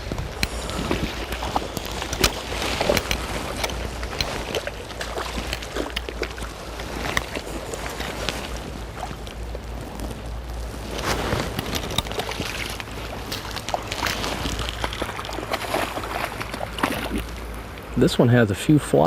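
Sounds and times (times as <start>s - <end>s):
water splashing from thrashing fish: 0.0s - 18.0s
low wind rumble: 0.0s - 19.0s
river flowing: 0.0s - 19.0s.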